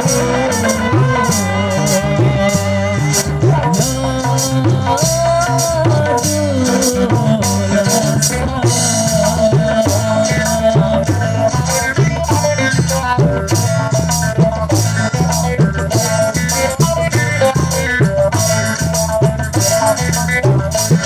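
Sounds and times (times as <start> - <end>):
loud percussion beat: 0.0 - 21.0.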